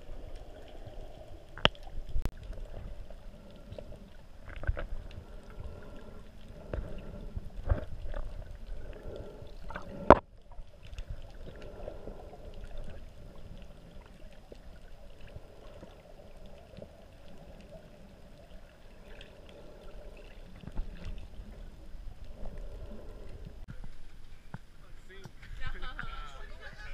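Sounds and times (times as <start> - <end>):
muffled underwater water movement: 0.0 - 26.9.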